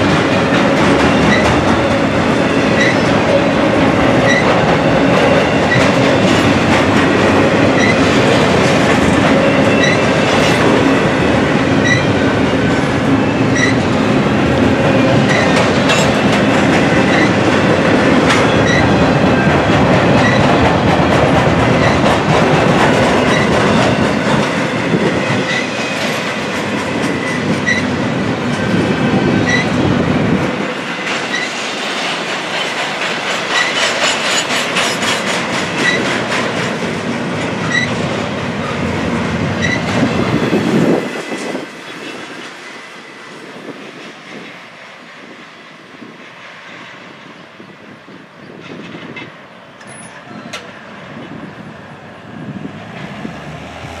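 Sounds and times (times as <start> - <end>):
freight train wheels clattering: 0.0 - 47.0
fainter train rumble: 0.0 - 54.0.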